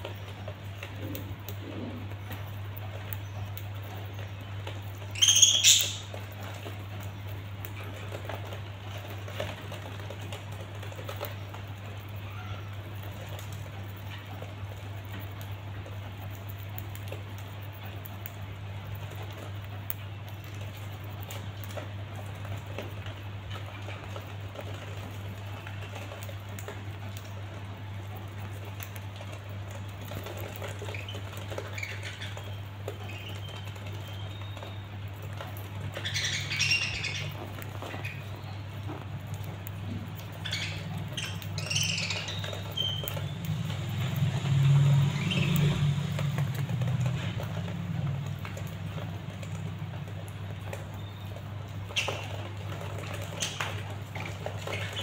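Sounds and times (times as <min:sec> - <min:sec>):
birds pecking at greens: 0:00.0 - 0:55.0.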